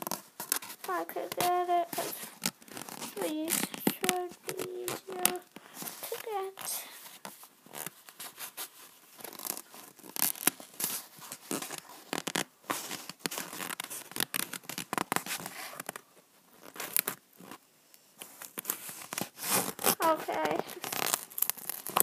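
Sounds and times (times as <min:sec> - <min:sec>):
paper crinkling: 0:00.0 - 0:17.6, 0:18.2 - 0:22.0.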